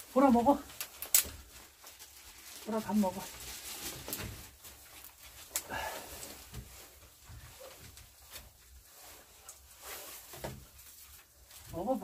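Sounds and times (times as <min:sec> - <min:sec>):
rustling in straw: 0:00.0 - 0:12.0.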